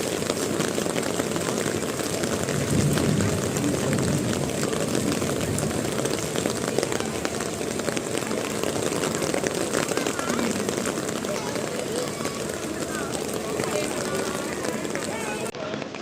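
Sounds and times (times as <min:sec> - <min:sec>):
rain drop taps: 0:00.0 - 0:15.6
heavy rain pouring: 0:00.0 - 0:15.9.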